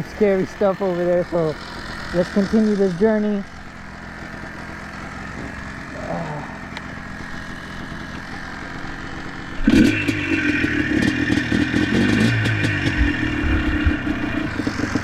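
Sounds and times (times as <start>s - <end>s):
atv engine: 0.0s - 15.0s.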